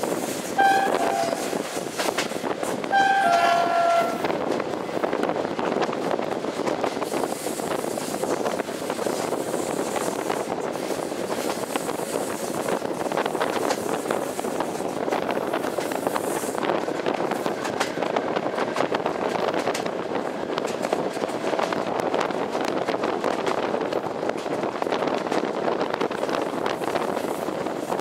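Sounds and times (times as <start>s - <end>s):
train wheels rattling on rails: 0.0s - 28.0s.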